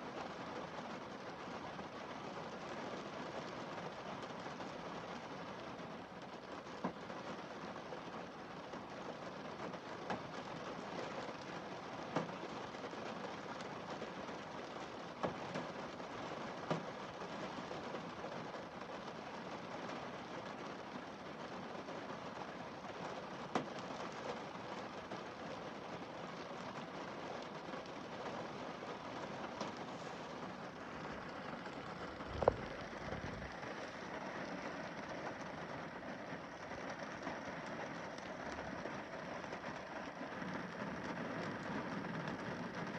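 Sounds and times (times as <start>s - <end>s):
rain pattering on windscreen: 0.0s - 42.9s
raindrops ticking on glass: 0.0s - 42.9s.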